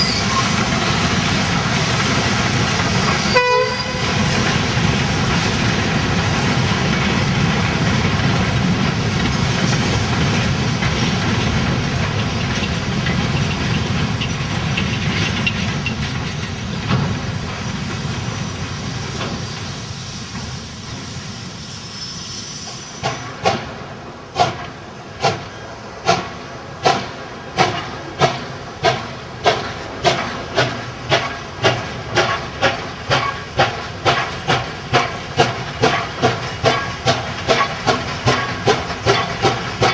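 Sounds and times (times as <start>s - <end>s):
freight train wagons rumbling: 0.0s - 39.9s
steam locomotive exhaust chuffs: 0.0s - 39.9s.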